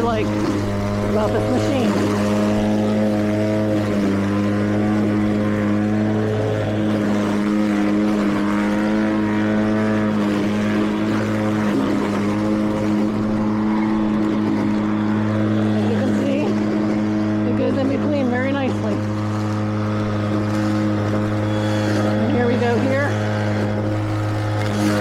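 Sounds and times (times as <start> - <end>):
lawn mower steady hum: 0.0 - 25.0.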